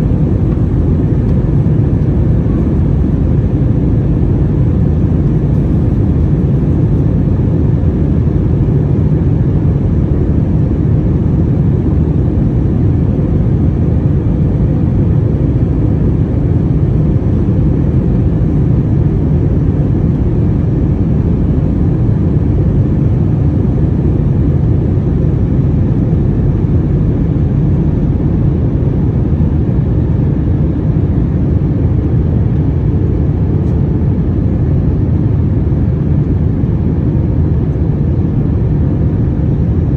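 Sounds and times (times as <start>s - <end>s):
aircraft cabin engine roar: 0.0s - 39.9s
faint steady hum: 0.0s - 39.9s.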